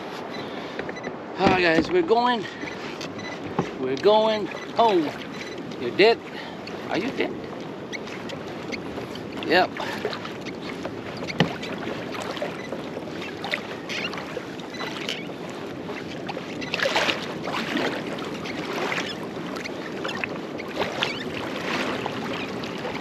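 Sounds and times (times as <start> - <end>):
rush of water: 0.0 - 23.0
water lapping around boat: 0.0 - 23.0.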